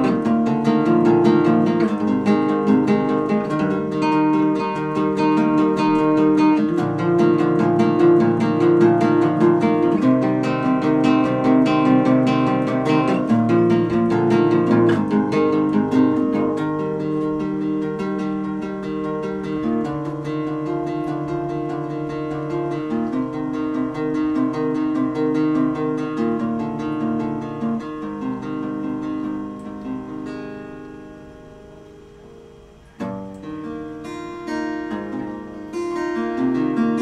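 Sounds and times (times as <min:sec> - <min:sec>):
acoustic guitar music: 0:00.0 - 0:37.0.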